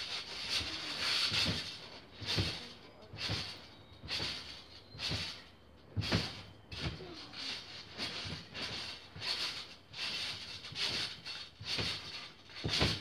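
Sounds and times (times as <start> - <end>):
trampoline thumping and creaking: 0.0 - 13.0.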